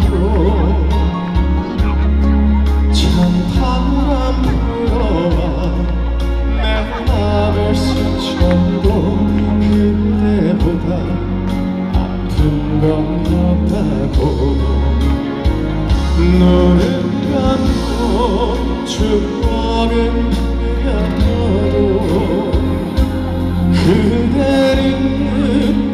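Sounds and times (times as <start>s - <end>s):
amplified backing music: 0.0s - 25.9s
man singing into a microphone: 0.0s - 25.9s.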